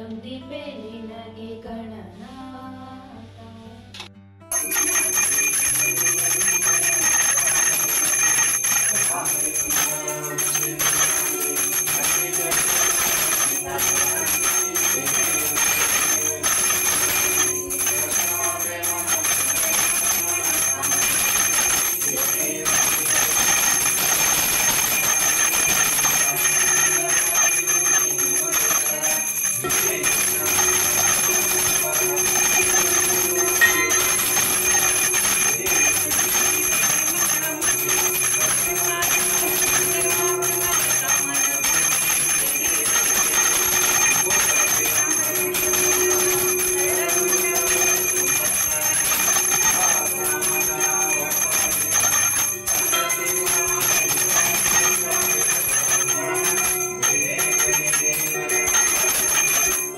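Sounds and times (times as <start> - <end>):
devotional music: 4.5 - 59.9
handbell ringing: 4.5 - 59.9.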